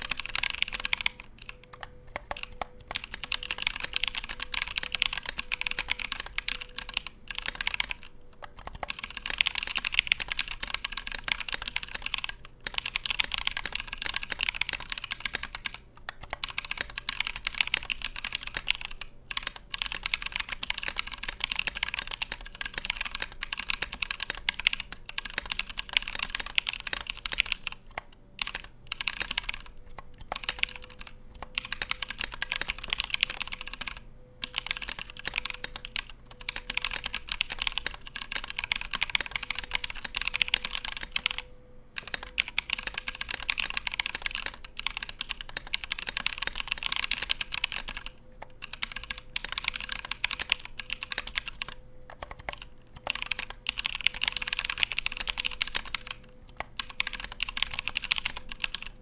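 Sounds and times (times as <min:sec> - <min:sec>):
fast typing on mechanical keyboard: 0:00.0 - 0:59.0.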